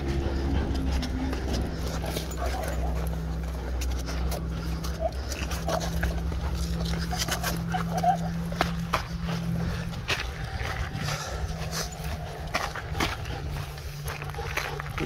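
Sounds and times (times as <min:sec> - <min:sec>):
dog panting: 0:00.0 - 0:15.0
footsteps on sandy trail: 0:00.0 - 0:15.0
steady low hum: 0:00.0 - 0:15.0.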